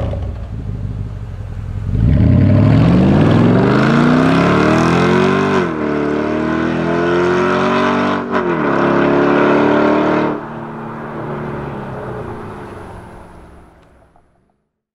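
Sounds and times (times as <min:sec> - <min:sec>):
car engine accelerating hard: 0:00.0 - 0:14.3.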